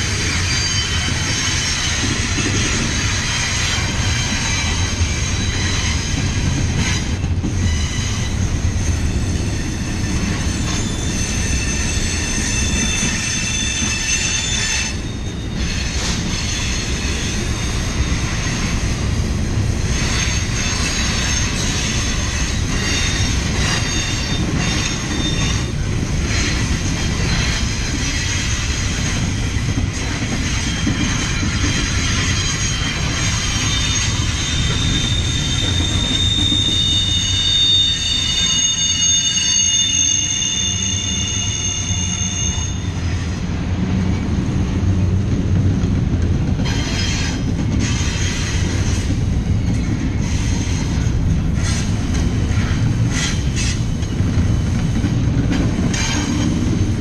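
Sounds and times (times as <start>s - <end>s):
wheels squealing on rail: 0.0s - 44.7s, 46.5s - 57.0s
train cars rumbling past: 0.0s - 57.0s.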